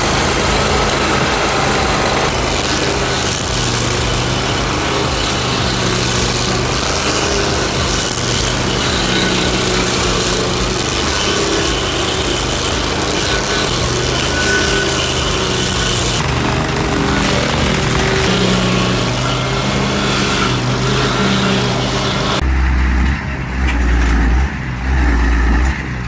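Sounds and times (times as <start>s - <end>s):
stump grinder engine running: 0.0s - 25.6s
cutter wheel grinding stump: 0.0s - 26.0s.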